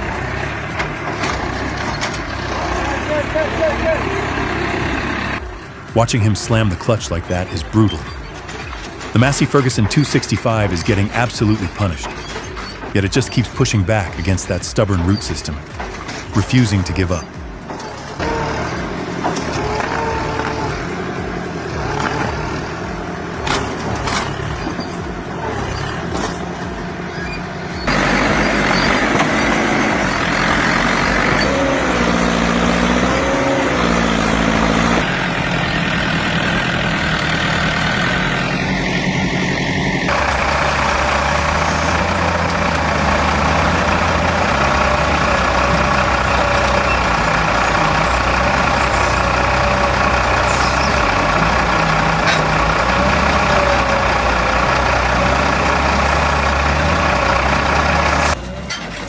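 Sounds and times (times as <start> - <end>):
diesel machinery engines under load: 0.0 - 59.0
engine revving: 0.0 - 59.0.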